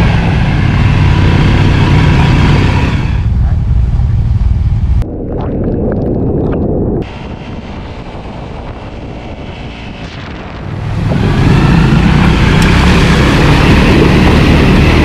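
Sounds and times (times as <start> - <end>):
motorcycle engine running: 0.0 - 5.1, 6.8 - 15.0
wind rushing over microphone: 0.0 - 15.0.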